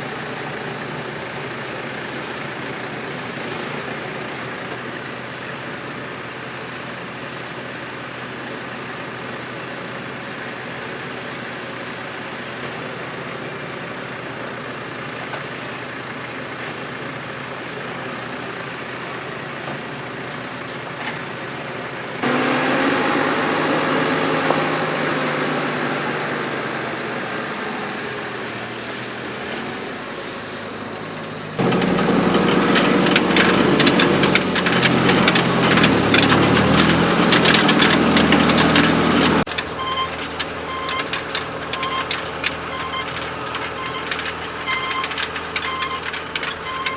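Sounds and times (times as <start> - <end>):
tractor engines running: 0.0 - 46.9.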